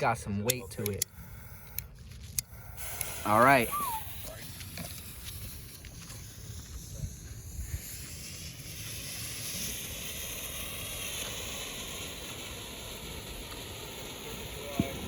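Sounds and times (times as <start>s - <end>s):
firework fuse hissing: 0.0s - 15.0s.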